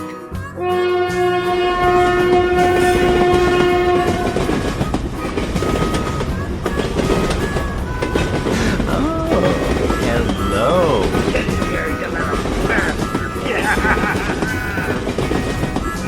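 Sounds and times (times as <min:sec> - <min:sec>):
train horn: 0:00.0 - 0:16.0
train wheels clickety-clack: 0:01.5 - 0:16.0.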